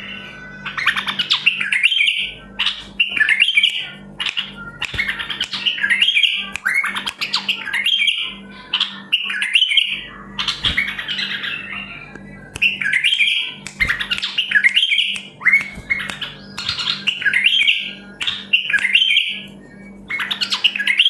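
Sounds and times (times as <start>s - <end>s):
bulbuls singing: 0.0s - 21.0s.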